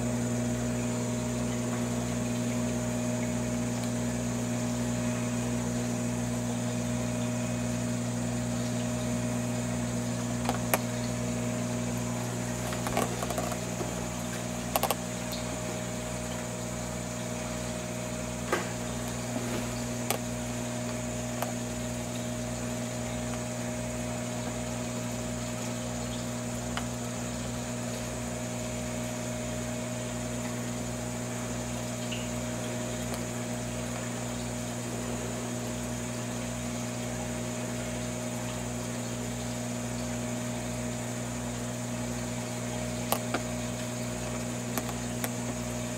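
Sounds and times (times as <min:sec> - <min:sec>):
aquarium filter pump humming: 0:00.0 - 0:45.9.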